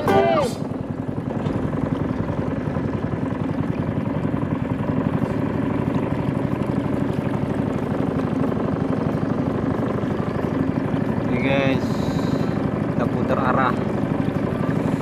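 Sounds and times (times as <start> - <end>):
boat motor pulsing: 0.0 - 15.0.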